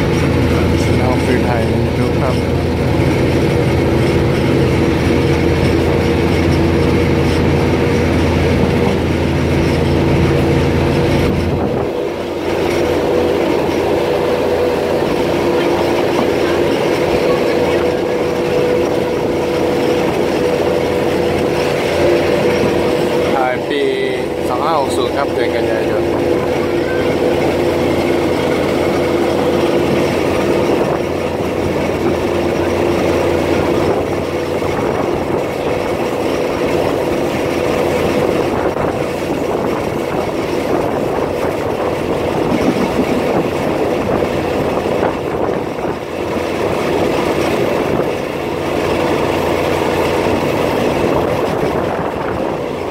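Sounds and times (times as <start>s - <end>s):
diesel engine hum: 0.0s - 52.9s
rail and wheel noise: 0.0s - 52.9s.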